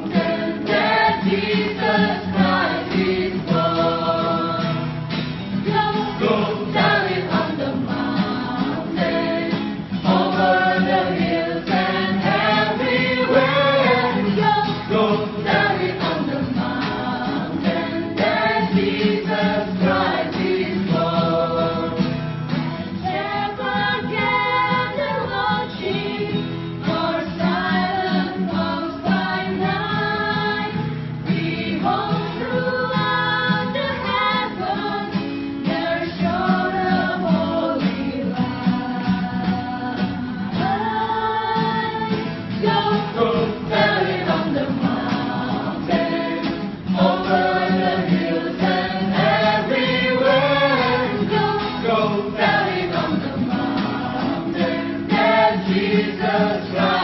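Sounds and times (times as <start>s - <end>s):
vocal group singing in parts: 0.0s - 57.0s.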